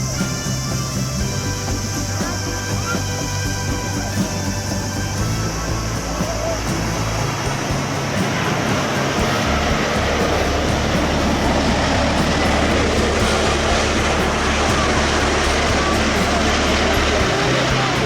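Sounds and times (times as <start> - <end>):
background music: 0.0 - 18.0
gusty wind: 0.0 - 18.0
jet engine roar: 0.0 - 18.0.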